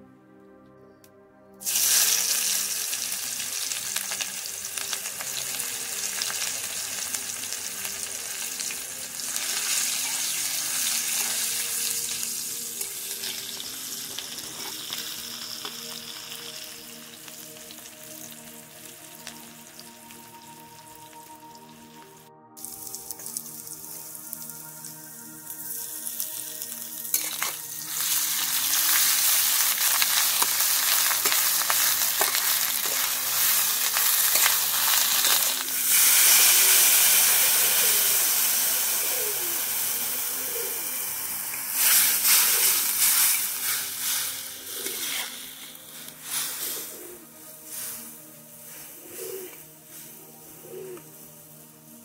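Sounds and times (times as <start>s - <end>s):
faint background music: 0.0s - 52.0s
onions sizzling in hot oil: 1.6s - 20.2s, 22.6s - 47.0s.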